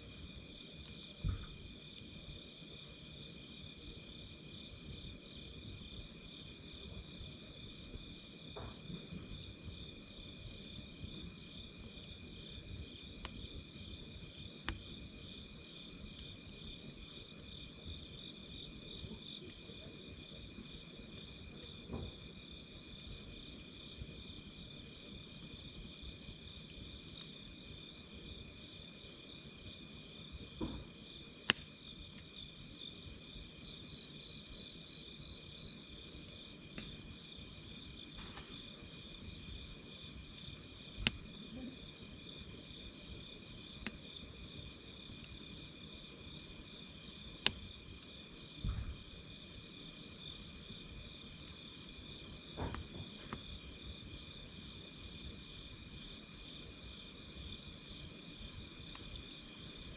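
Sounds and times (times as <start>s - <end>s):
crickets trilling: 0.0s - 59.9s
campfire crackling pops: 0.1s - 3.8s, 4.5s - 59.9s.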